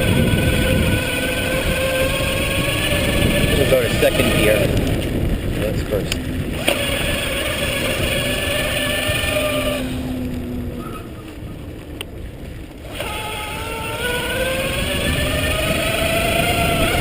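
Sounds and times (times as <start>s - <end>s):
electric bike motor whining: 0.0s - 17.0s
wind rumbling on microphone: 0.0s - 17.0s.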